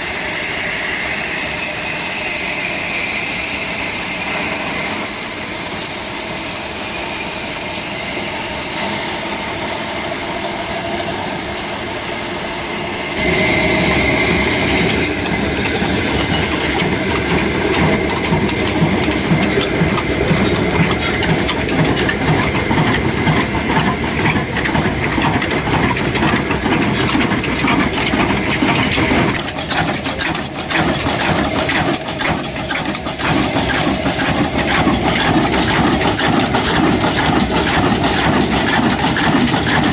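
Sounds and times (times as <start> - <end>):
stationary diesel engine running: 0.0 - 39.9.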